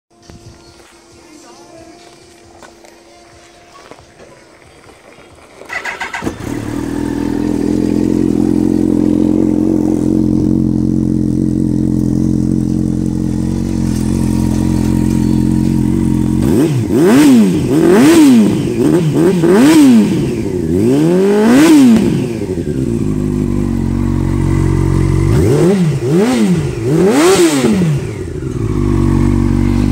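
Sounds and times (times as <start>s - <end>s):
motorcycle engine starting: 5.0s - 29.9s
motorcycle engine idling: 5.7s - 29.9s
motorcycle throttle blips: 5.7s - 29.9s.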